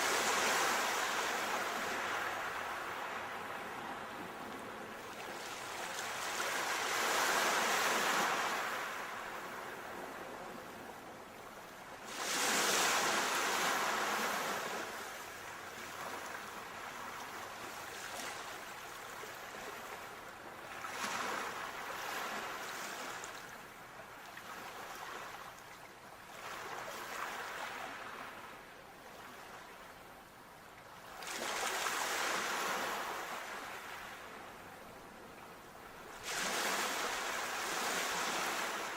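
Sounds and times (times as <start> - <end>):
sea waves breaking on shore: 0.0 - 30.0, 30.9 - 38.9.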